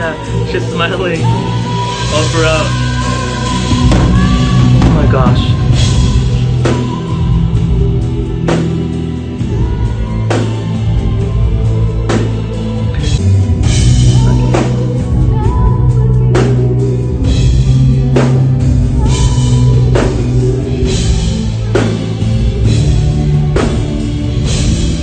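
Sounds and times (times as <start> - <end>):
live band with drum kit: 0.0 - 25.0
women singing pop song: 0.0 - 25.0.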